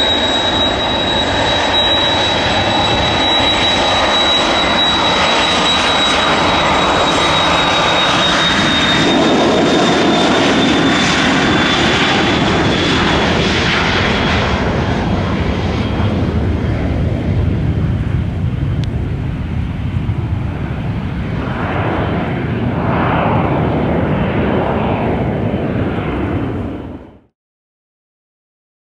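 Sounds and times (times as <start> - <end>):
jet taking off: 0.0 - 27.3.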